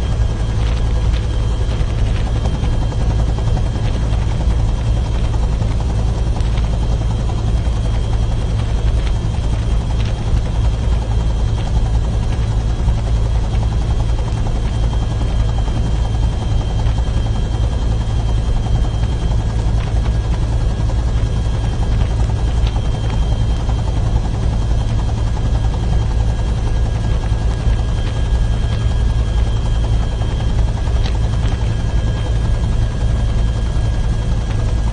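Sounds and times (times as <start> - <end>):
helicopter cabin drone: 0.0 - 34.9
high whine: 0.0 - 34.9.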